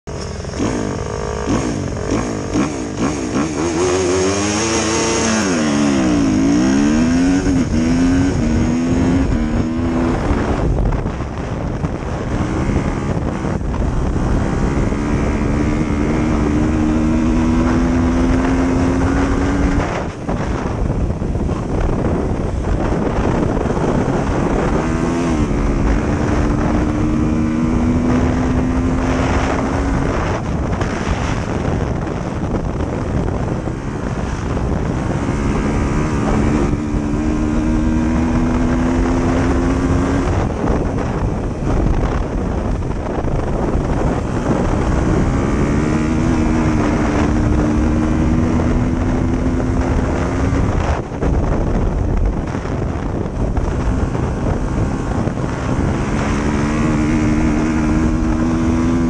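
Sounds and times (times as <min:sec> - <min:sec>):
dirt bike engine racing: 0:00.1 - 0:59.0.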